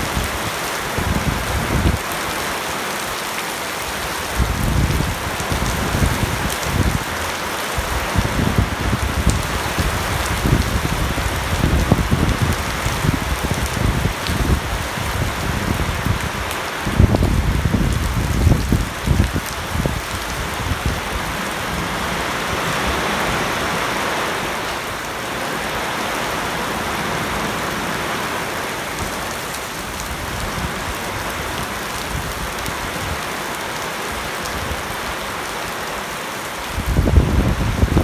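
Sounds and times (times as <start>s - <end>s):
heavy rain on water and paving: 0.0s - 38.0s.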